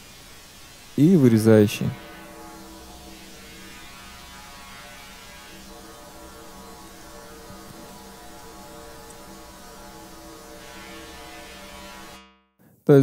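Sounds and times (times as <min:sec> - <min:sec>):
filtered hiss: 0:00.0 - 0:12.2
resonant synthetic drone: 0:00.0 - 0:12.5.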